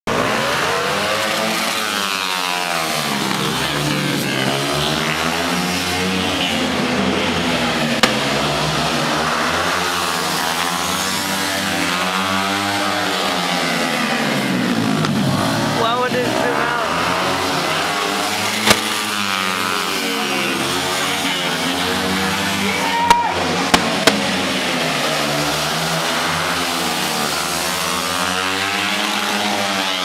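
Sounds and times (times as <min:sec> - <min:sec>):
vehicle engine revving: 0:00.1 - 0:30.0.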